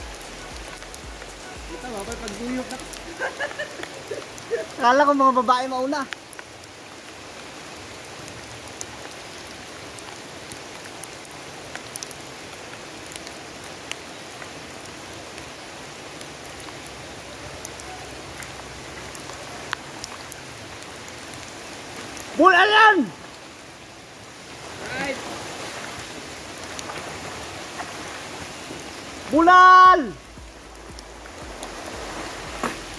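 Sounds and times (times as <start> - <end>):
raindrops ticking close by: 0.0 - 32.9
steady rain falling: 0.0 - 32.9.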